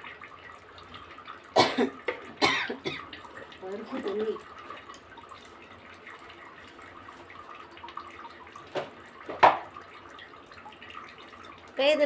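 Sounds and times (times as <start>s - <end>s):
faint watery hiss of heating pot: 0.0s - 12.0s.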